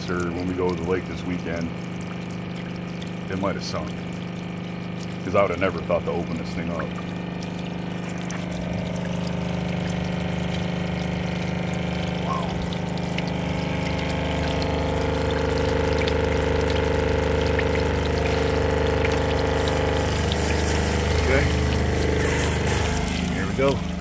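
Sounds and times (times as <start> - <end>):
water pump humming: 0.0 - 24.0
water spilling from outlet: 0.0 - 24.0.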